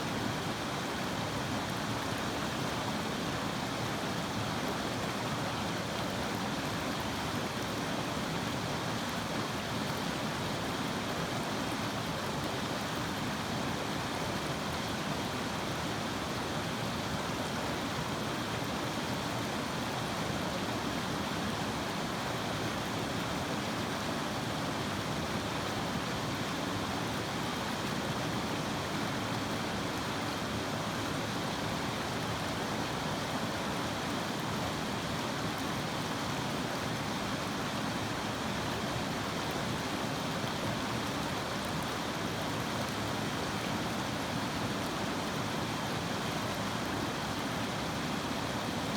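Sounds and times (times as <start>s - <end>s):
river water flowing: 0.0s - 48.9s.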